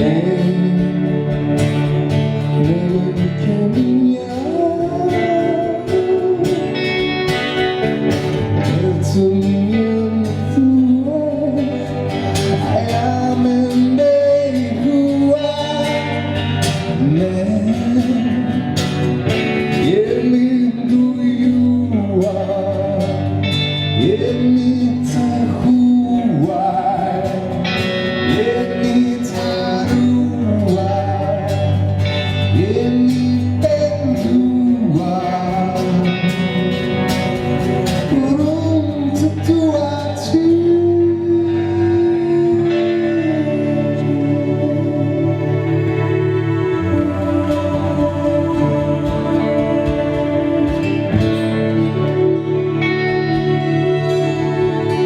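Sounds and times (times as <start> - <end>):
person singing: 0.0 - 7.7, 8.6 - 55.0
guitar and band music: 0.0 - 55.0.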